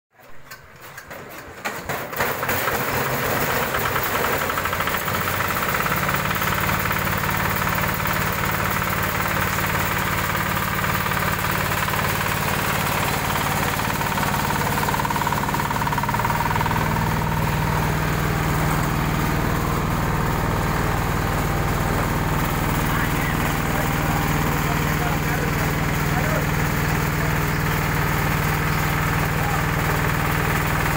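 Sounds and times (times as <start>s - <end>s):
small diesel engine running: 0.2s - 30.9s.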